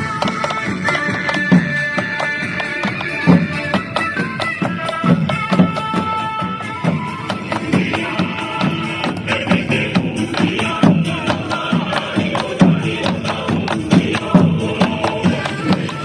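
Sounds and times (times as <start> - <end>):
square-dance music: 0.0 - 16.0.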